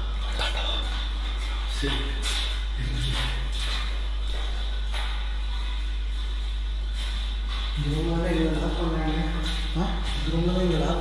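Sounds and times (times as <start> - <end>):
footsteps shuffling on hard floor: 0.0 - 11.0
steady low hum: 0.0 - 11.0.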